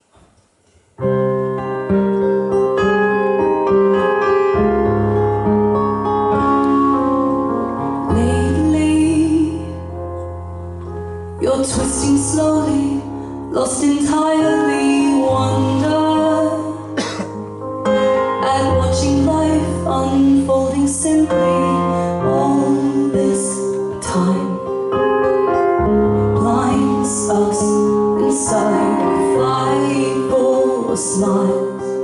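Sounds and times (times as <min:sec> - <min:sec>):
bass line: 0:02.8 - 0:23.3, 0:24.0 - 0:31.6.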